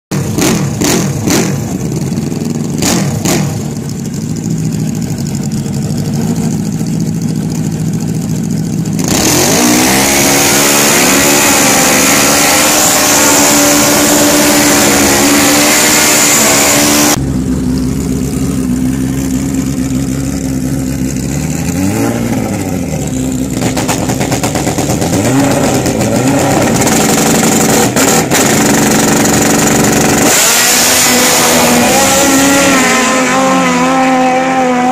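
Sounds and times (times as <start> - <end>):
motorcycle engines revving: 0.1 - 34.9
tyre burnout: 0.1 - 34.9.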